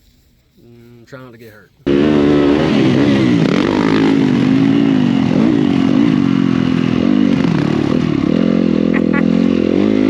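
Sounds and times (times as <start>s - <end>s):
dirt bike engine revving: 1.8s - 10.0s.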